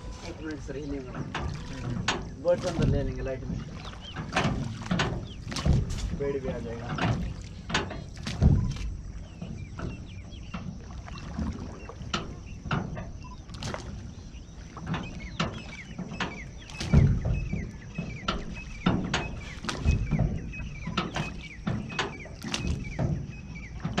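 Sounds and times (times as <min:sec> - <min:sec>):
bird calls: 0:00.0 - 0:24.0
oars splashing in water: 0:00.0 - 0:24.0.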